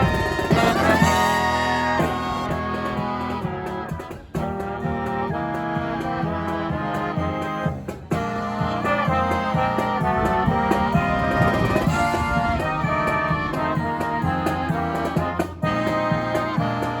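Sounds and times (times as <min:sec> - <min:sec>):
brass band playing upbeat tune: 0:00.0 - 0:17.0.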